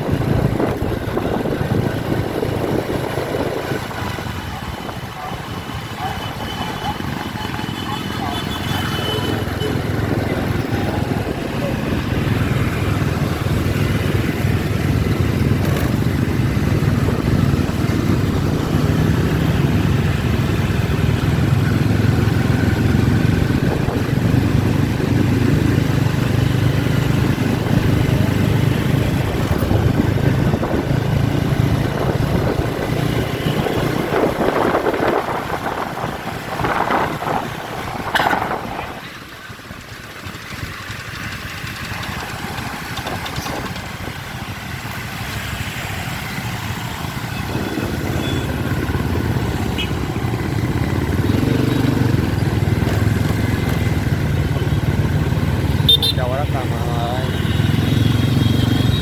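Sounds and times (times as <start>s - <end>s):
motorbike engines in traffic: 0.0s - 59.0s.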